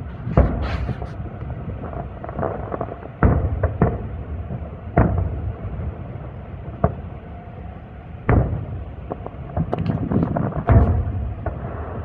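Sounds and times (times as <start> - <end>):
fireworks sharp crack: 0.0 - 7.2, 8.2 - 12.0
fireworks booming: 0.0 - 12.0
small fireworks pops: 0.0 - 12.0.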